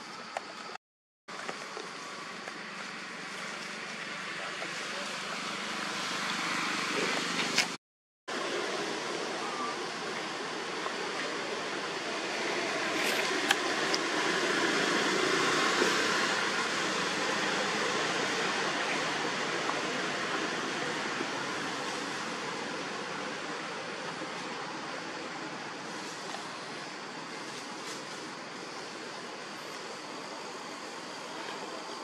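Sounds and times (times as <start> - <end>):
outdoor rushing noise: 2.8 - 32.0.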